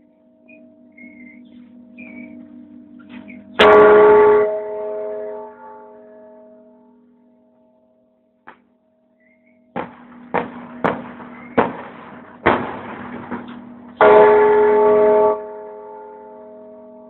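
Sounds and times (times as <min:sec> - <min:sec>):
church bell ringing: 0:00.0 - 0:17.0.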